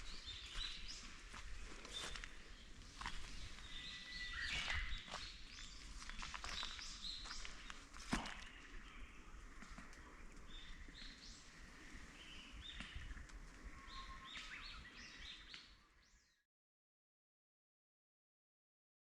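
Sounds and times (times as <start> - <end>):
small birds chirping: 0.0 - 16.4.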